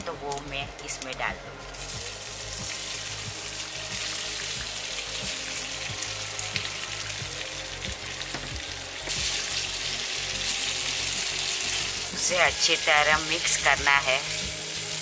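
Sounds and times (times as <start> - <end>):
oil sizzling in frying pan: 0.3 - 15.0.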